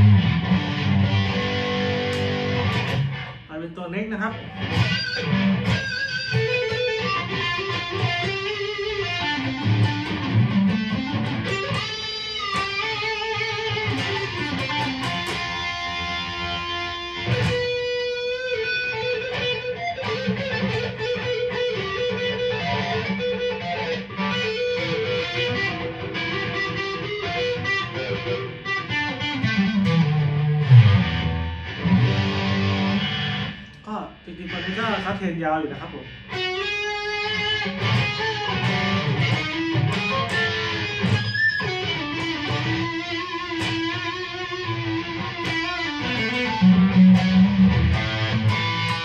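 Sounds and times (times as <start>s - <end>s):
electric guitar lead melody: 0.0s - 3.5s, 4.3s - 49.0s.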